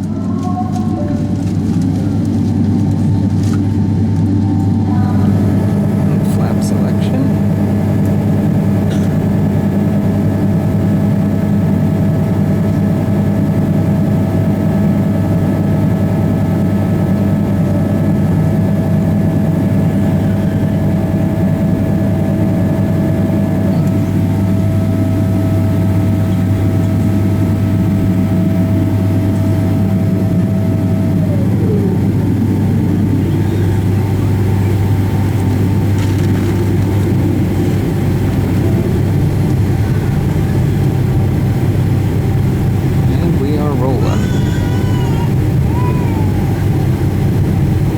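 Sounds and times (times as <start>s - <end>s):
jet engine drone in cabin: 0.0s - 47.9s
thin engine whine: 0.0s - 47.9s.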